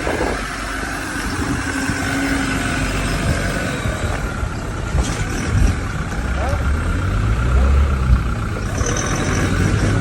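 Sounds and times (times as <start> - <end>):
engine rumbling: 0.0 - 10.0.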